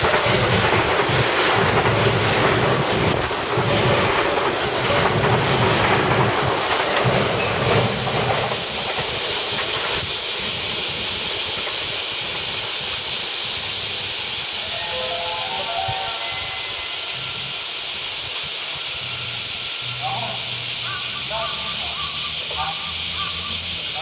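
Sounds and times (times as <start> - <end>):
distant train high hiss: 0.0 - 24.0
train wheels rumbling on rails: 0.0 - 24.0.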